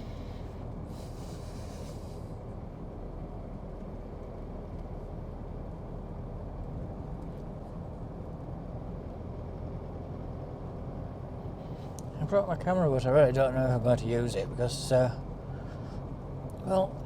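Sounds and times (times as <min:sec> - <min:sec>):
engine and road rumble from inside: 0:00.0 - 0:17.0.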